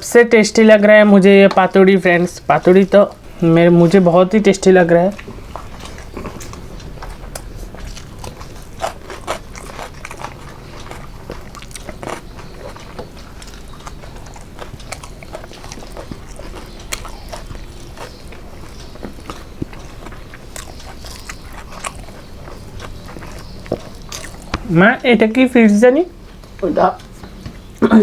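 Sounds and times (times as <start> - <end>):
person chewing food: 2.6 - 25.4, 26.2 - 27.9.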